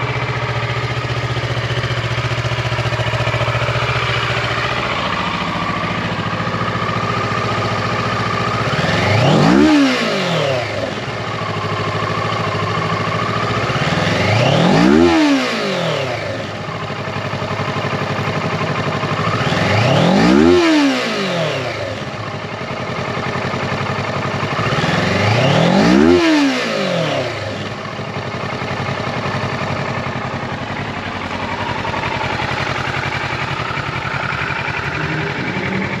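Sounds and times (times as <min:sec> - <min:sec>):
motorcycle engine revving and idling: 0:00.0 - 0:36.0.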